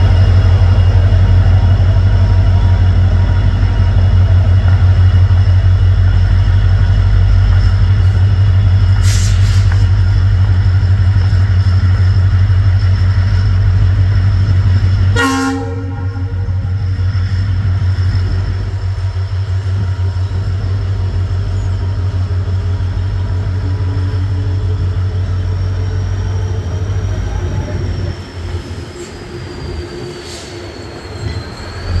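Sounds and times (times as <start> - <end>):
locomotive hum: 0.0 - 32.0
train rolling rumble: 0.0 - 32.0
high wheel squeal: 5.4 - 32.0.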